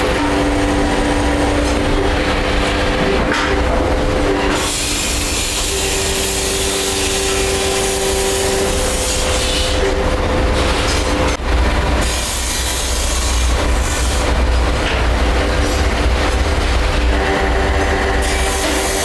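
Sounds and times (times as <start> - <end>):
heavy machinery rumble and hum: 0.0 - 19.0.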